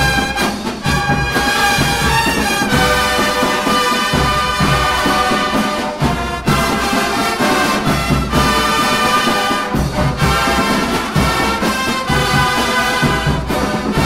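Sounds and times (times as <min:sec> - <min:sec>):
bugle line playing brass chords: 0:00.0 - 0:14.0.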